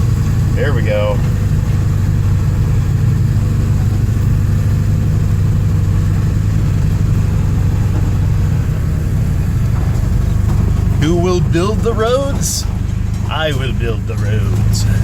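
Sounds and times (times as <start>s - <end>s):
diesel engine running at low revs: 0.0s - 15.0s.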